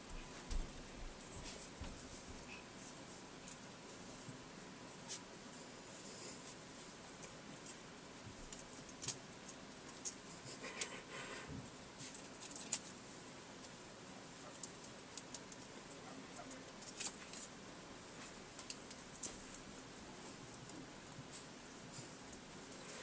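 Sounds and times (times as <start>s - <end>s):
small claws clicking and scratching: 1.4s - 23.0s.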